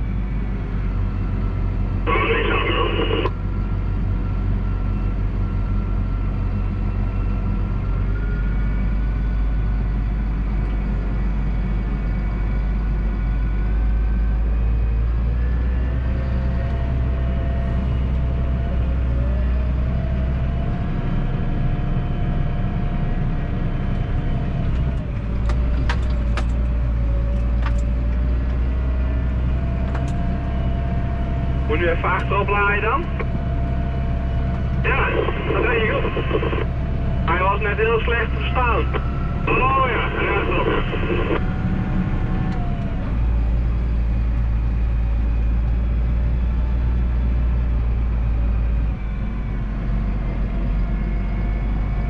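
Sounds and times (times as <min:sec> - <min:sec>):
tractor diesel engine drone: 0:00.0 - 0:52.0.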